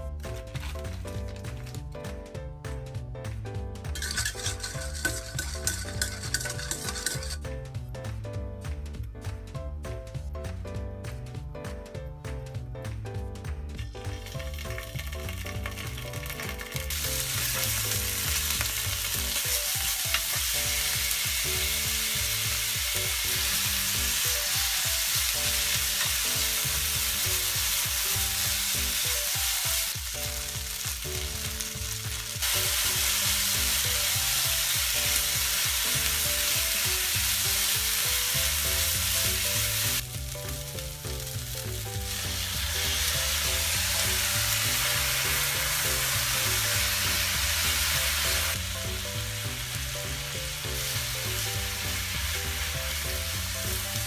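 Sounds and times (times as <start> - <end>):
food sizzling in frying pan: 3.9 - 7.5, 13.8 - 54.0.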